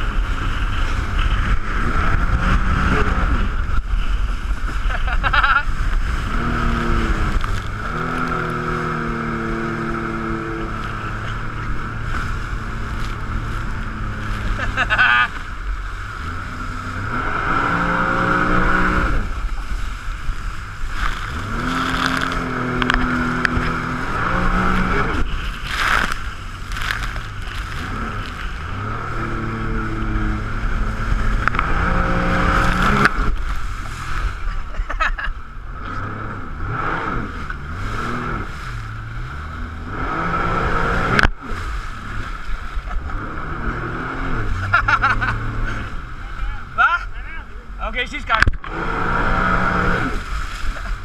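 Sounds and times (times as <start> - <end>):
jet ski engine revving: 0.0 - 51.0.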